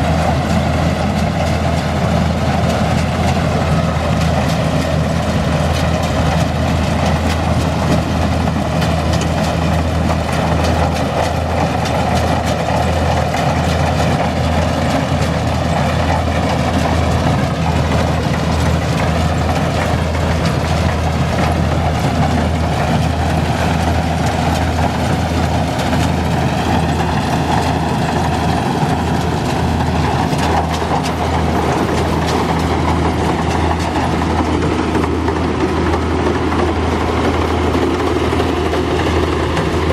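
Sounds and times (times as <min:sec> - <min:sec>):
combine harvester diesel engine: 0:00.0 - 0:39.9
continuous mechanical clatter: 0:00.0 - 0:39.9.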